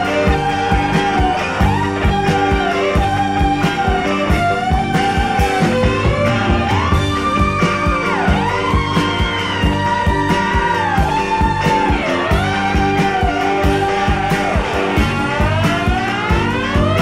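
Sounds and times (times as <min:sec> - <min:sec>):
bending lead guitar: 0:00.0 - 0:17.0
steady drum beat: 0:00.0 - 0:17.0.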